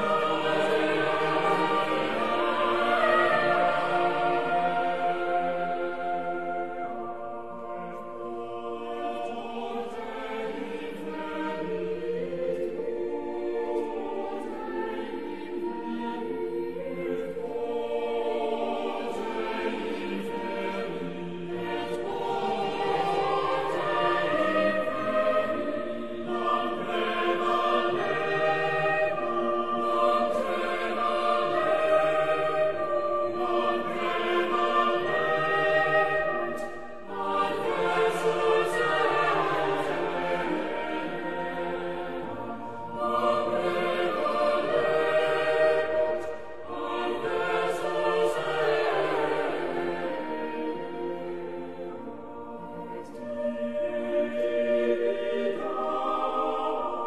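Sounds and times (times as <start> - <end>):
choir singing long chords: 0.0 - 57.0.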